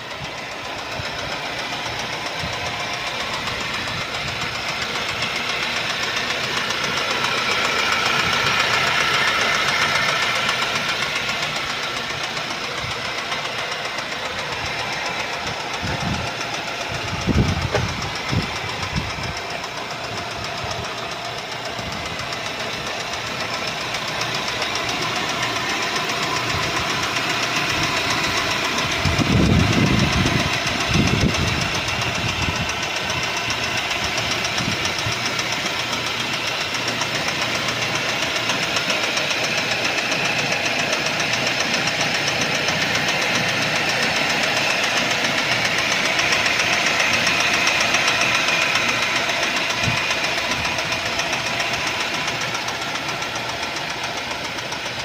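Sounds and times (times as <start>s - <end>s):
car engine knocking: 0.0s - 55.0s
low engine rumbles: 0.0s - 55.0s.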